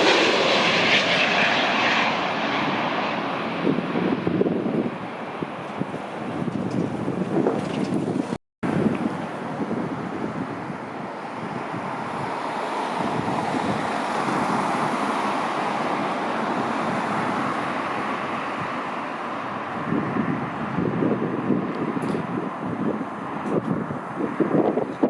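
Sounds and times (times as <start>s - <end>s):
jet airliner roar: 0.0s - 25.0s
wind buffeting microphone: 0.0s - 25.0s.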